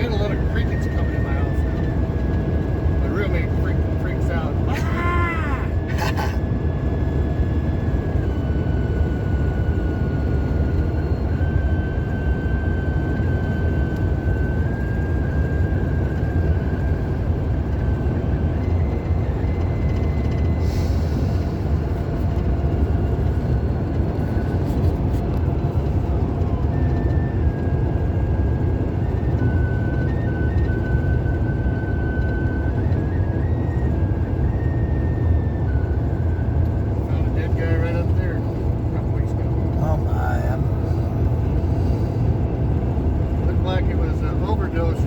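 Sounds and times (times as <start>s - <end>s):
car cabin road and engine rumble: 0.0s - 45.0s.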